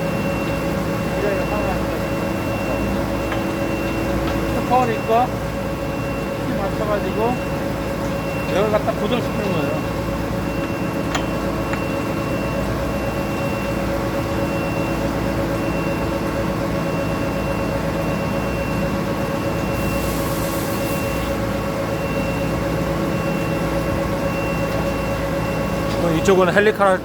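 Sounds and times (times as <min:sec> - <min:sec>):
high machine tone: 0:00.0 - 0:27.0
machine humming and whining: 0:00.0 - 0:27.0.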